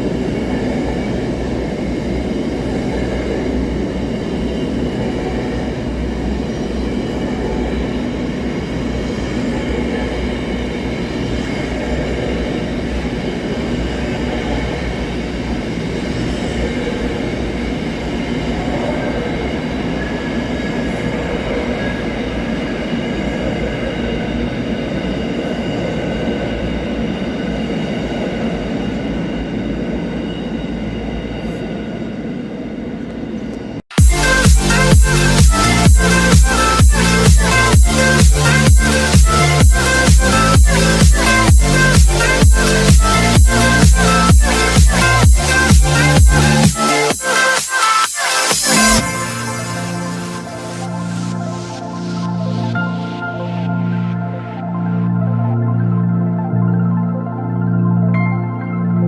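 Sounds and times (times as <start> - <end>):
freight train rumbling on rails: 0.0 - 55.8.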